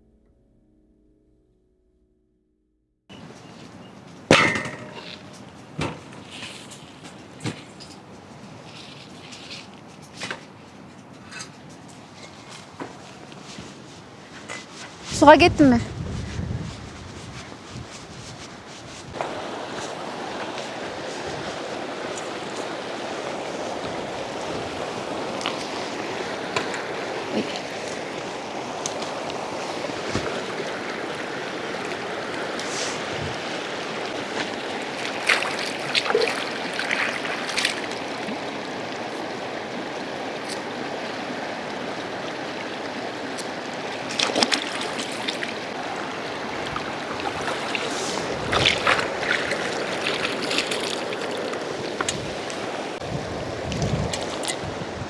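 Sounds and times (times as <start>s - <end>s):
rushing water: 3.2s - 55.0s.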